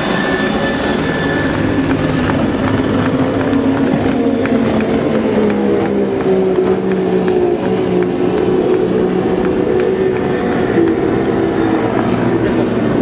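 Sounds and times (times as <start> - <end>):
powerboat engine passing: 0.0 - 13.0.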